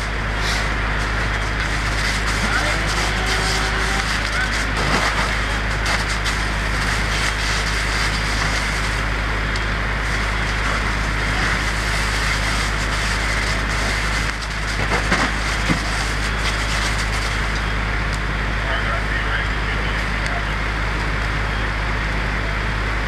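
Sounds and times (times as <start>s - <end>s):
fire rushing and crackling: 0.0s - 23.0s
low engine drone: 0.0s - 23.0s.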